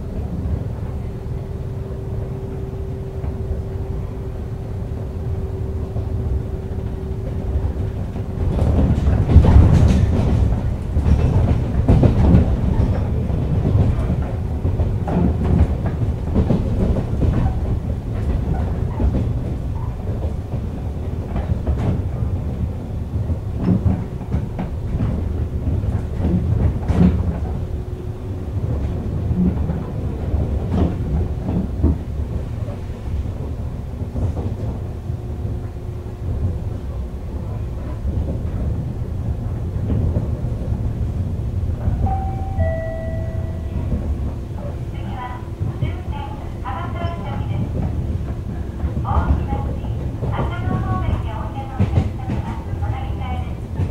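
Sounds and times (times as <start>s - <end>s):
train wheels rumbling on rail: 0.0s - 53.9s
wheels clacking over rail joints: 6.8s - 53.9s.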